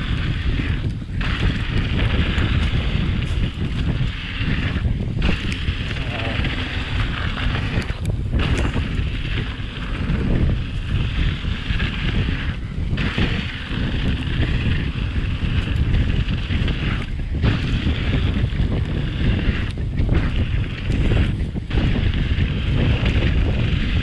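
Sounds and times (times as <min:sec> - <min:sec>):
bike tyres rumbling on trail: 0:00.0 - 0:24.0
wind buffeting microphone: 0:00.0 - 0:24.0.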